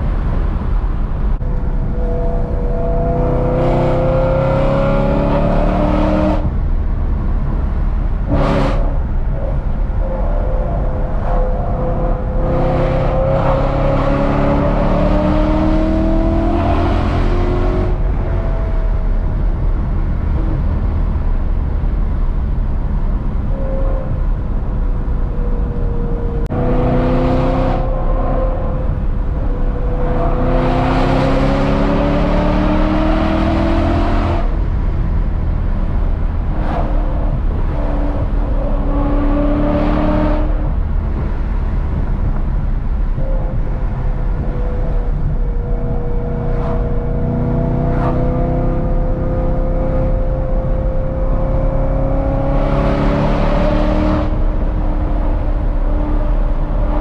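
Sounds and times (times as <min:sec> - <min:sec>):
car engine accelerating hard: 0:00.0 - 0:57.0
road and wind rumble: 0:00.0 - 0:57.0.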